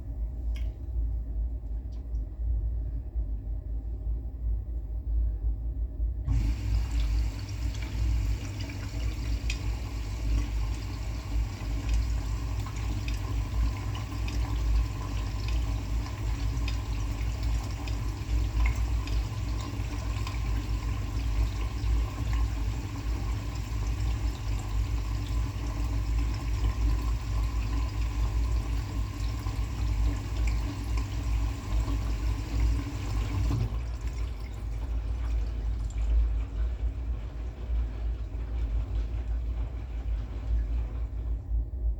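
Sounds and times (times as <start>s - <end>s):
washing machine sloshing water: 6.3s - 41.9s.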